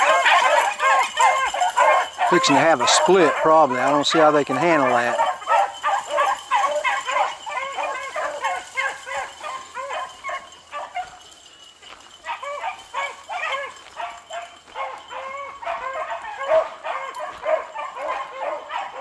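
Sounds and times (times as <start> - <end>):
dogs baying: 0.0 - 19.0.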